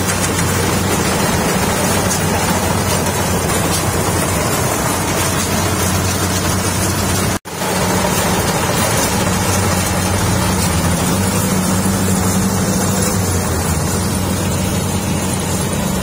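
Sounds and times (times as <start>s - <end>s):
combine harvester diesel engine hum: 0.0s - 16.0s
machinery whirring and rattling: 0.0s - 16.0s.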